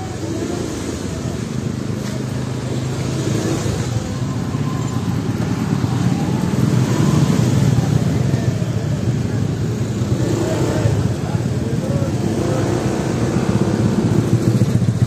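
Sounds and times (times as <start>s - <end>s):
motorbike and scooter engines: 0.0s - 15.0s.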